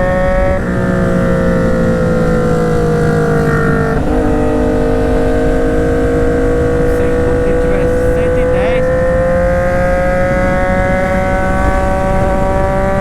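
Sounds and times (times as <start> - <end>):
gear change: 0.0 - 13.0
motorcycle engine running hard: 0.0 - 13.0
wind rumble on microphone: 0.0 - 13.0.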